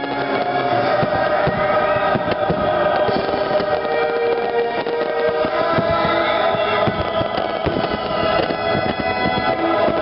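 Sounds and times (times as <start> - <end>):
fireworks bangs and crackles: 0.0 - 10.0
show music: 0.0 - 10.0.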